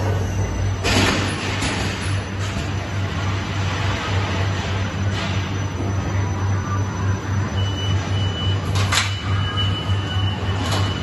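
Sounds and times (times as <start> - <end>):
machine humming with pulse: 0.0 - 11.0.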